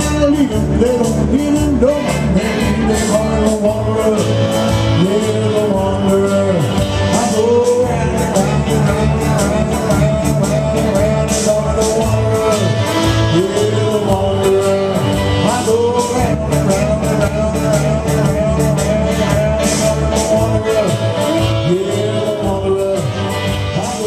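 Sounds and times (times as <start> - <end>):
electric guitar: 0.0 - 24.0
live rock band music: 0.0 - 24.0.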